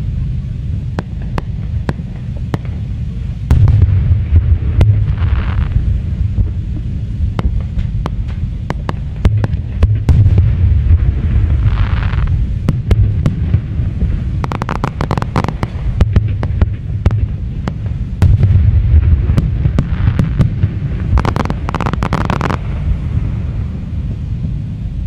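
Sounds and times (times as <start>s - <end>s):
hiss: 0.0s - 18.4s, 19.3s - 25.0s
deep rumble of firework bursts: 0.0s - 25.0s
sharp crackling pops: 0.6s - 24.7s.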